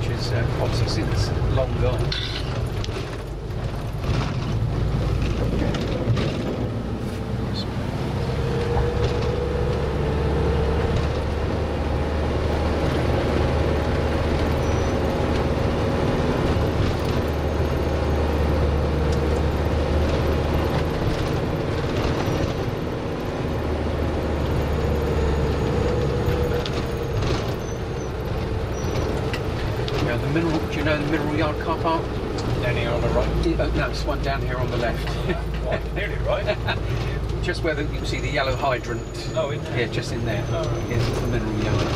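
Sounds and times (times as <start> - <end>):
minibus engine and road noise: 0.0 - 41.9.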